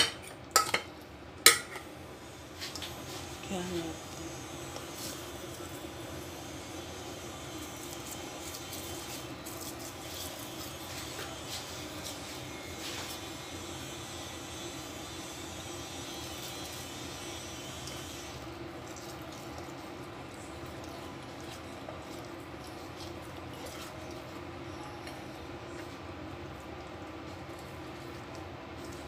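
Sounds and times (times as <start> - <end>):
background hum and hiss: 0.0 - 29.0.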